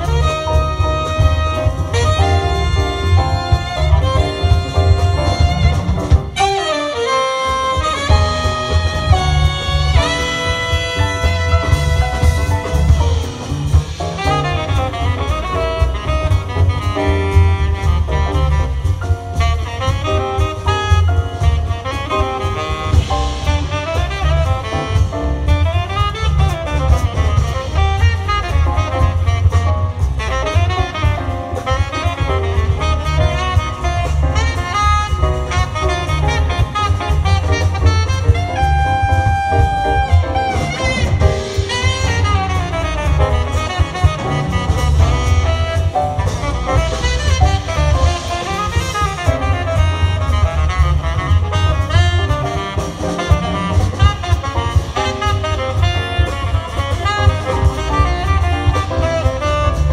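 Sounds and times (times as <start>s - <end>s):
drums: 0.0s - 59.9s
piano: 0.0s - 59.9s
saxophone solo: 0.0s - 59.9s
upright bass: 0.0s - 59.9s.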